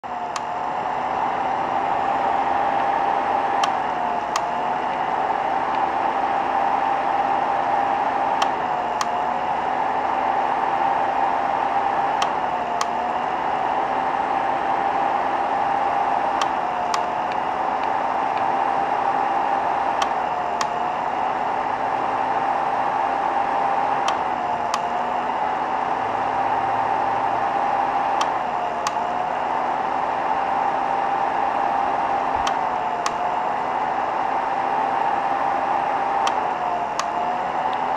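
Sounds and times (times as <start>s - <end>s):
fan whine and hum: 0.0s - 37.9s.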